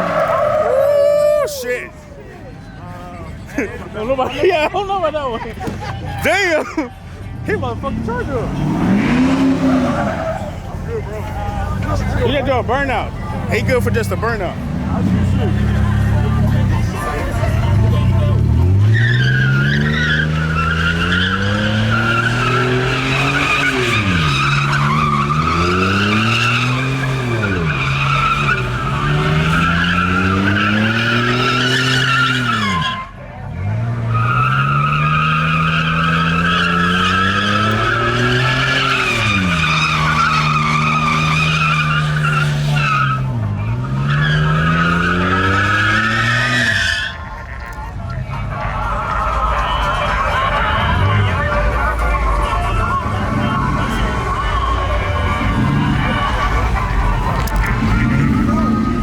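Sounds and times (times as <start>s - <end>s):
car engine revving: 7.4s - 59.0s
tyres screeching: 8.0s - 33.2s, 33.8s - 47.8s, 49.2s - 59.0s.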